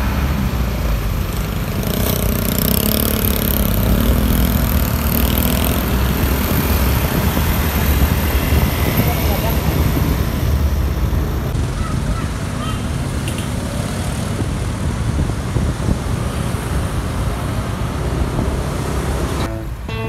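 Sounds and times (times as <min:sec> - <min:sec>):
road noise: 0:00.0 - 0:20.0
vehicle engines rumbling: 0:00.0 - 0:20.0.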